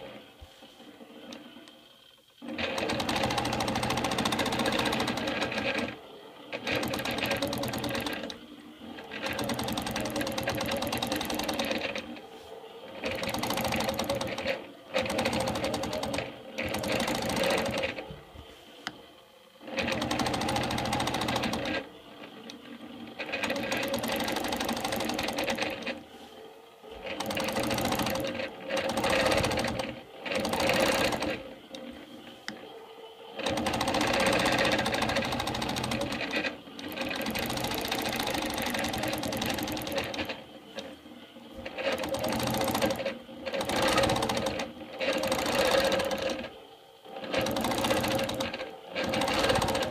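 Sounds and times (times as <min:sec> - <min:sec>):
quilting machine stitching: 0:00.0 - 0:49.9.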